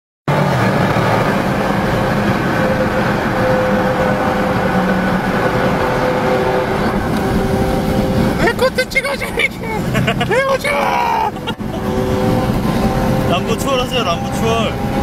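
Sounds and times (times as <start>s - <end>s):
low engine hum: 0.3s - 15.0s
tyre and wind roar: 0.3s - 15.0s.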